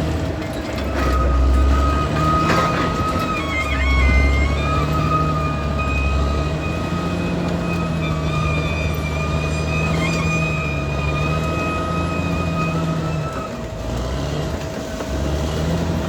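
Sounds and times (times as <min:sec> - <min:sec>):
bulldozer diesel engine running: 0:00.0 - 0:16.0
high-pitched squeal: 0:00.8 - 0:14.3.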